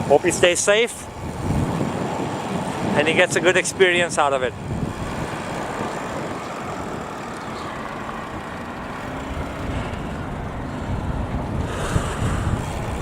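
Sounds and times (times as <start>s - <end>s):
road traffic passing: 0.0s - 13.0s
wind on microphone: 0.0s - 13.0s.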